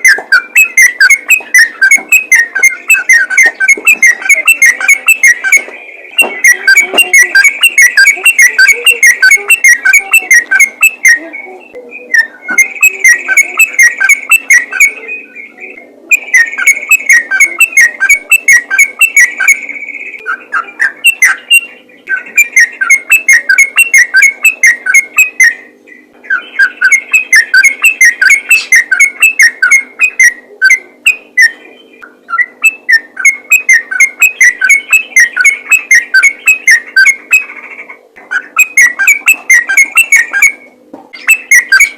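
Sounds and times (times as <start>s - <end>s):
bulbul singing whistled notes: 0.0s - 37.6s, 38.3s - 41.9s.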